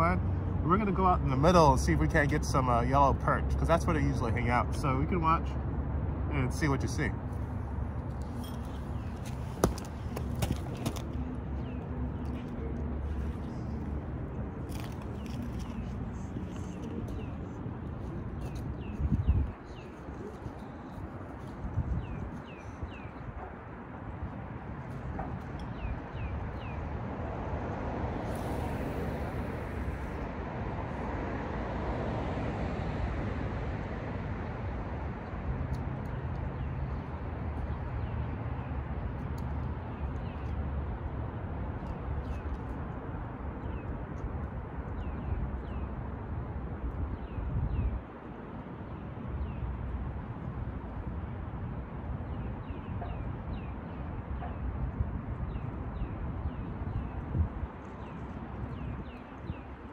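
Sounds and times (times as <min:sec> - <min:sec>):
distant road traffic: 0:00.0 - 0:59.9
wind rumbling on microphone: 0:07.1 - 0:38.1, 0:41.2 - 0:59.9.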